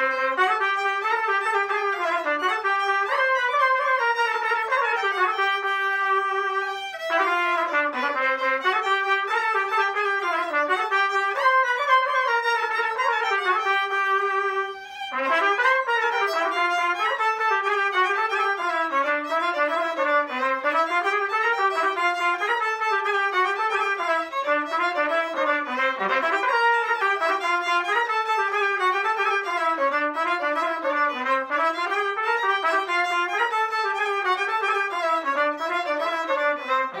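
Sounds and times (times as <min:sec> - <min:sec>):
trumpet playing: 0:00.0 - 0:37.0
violin melody: 0:00.0 - 0:37.0.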